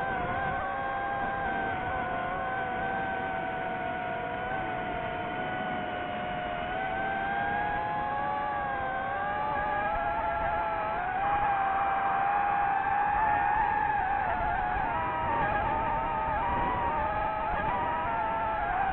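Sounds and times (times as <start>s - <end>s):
drone motors whining: 0.0s - 18.9s.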